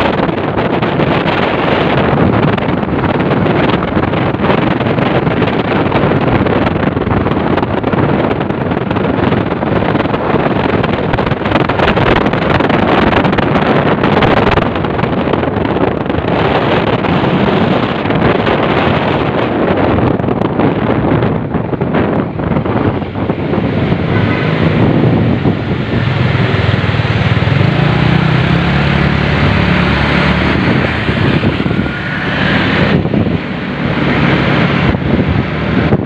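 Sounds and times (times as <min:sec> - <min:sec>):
motorcycle running: 0:00.0 - 0:36.0
road noise: 0:00.0 - 0:36.0
wind buffeting microphone: 0:00.0 - 0:36.0.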